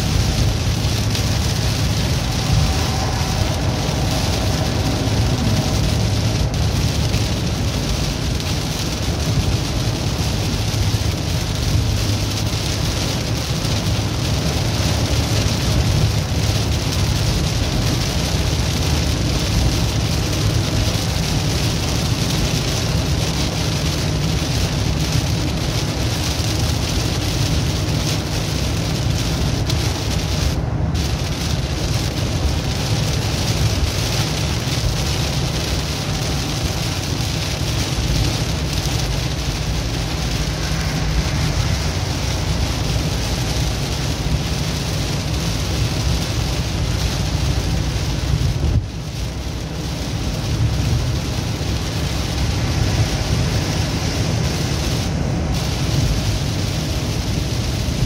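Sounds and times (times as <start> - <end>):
engine and tyre rumble: 0.0 - 58.0
road hiss: 0.0 - 58.0.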